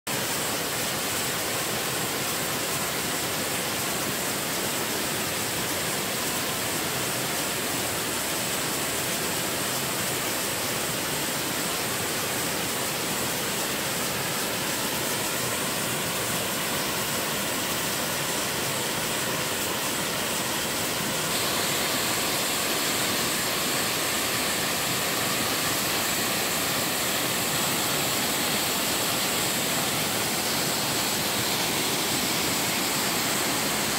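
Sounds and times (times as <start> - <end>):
waterfall pouring: 0.1 - 33.9.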